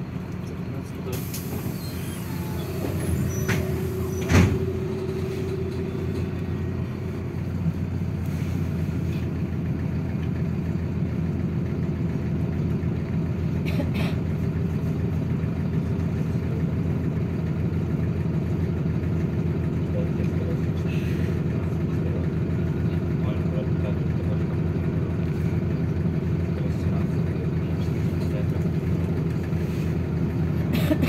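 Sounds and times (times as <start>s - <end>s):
bus engine running: 0.0s - 31.0s.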